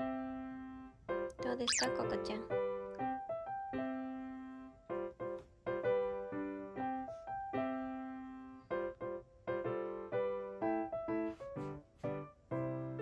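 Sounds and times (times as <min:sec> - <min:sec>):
gentle piano tune: 0:00.0 - 0:13.0.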